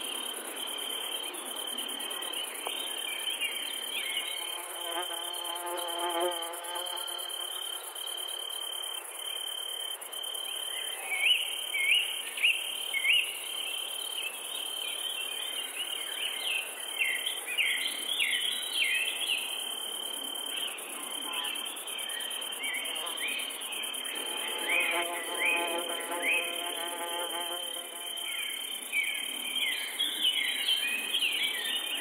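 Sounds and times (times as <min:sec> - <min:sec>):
insects trilling: 0:00.0 - 0:13.2, 0:16.9 - 0:32.0.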